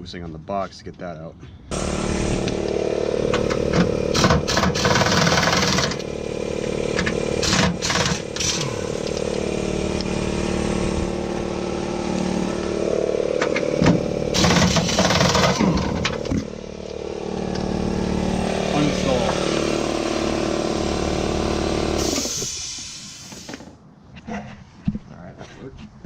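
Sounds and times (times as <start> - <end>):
engine running: 1.7 - 23.8.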